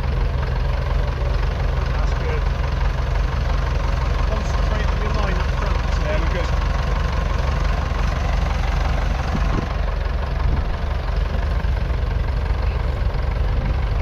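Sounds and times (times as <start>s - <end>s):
tractor diesel engine rumble: 0.0s - 14.0s.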